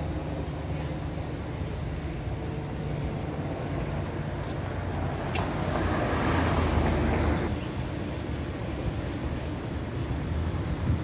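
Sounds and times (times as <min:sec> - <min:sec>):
street traffic rumbling: 0:00.0 - 0:11.0.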